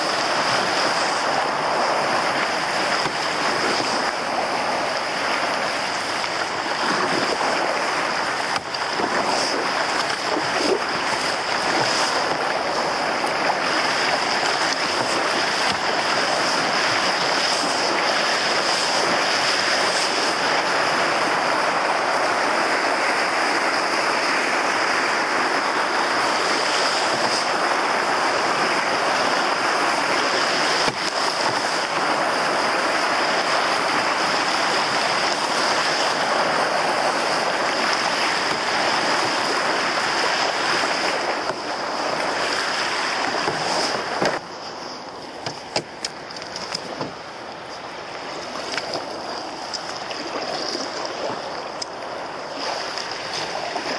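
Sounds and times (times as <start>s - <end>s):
rushing water around canoe: 0.0s - 53.9s.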